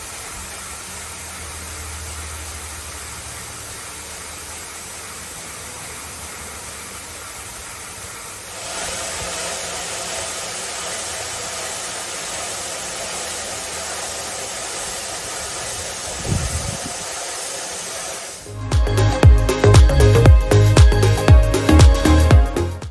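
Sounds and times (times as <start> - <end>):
belt sander running: 0.0 - 22.3.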